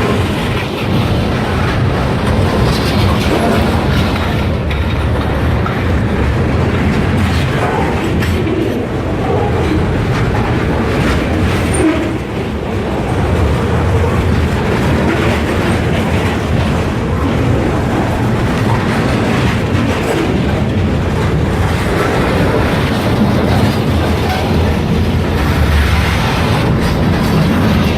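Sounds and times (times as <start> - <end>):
freight train wheels on rails: 0.0 - 27.9
wheels clicking over rail joints: 0.0 - 27.9.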